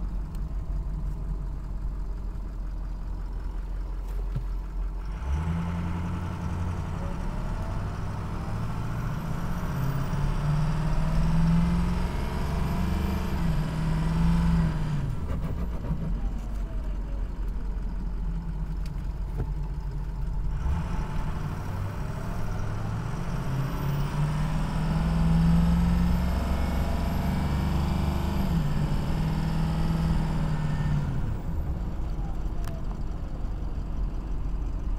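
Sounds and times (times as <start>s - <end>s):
diesel engine revving: 4.9s - 34.8s.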